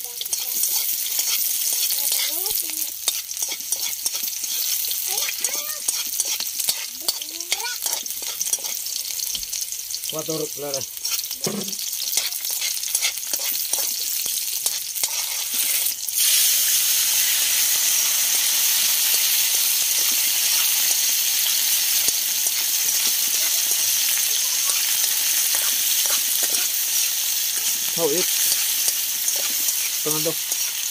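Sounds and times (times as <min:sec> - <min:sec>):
food sizzling in hot oil: 0:00.0 - 0:30.9.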